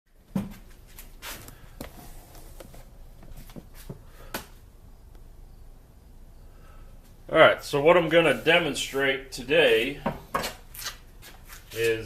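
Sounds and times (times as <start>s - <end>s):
faint background noise: 0.1s - 12.0s.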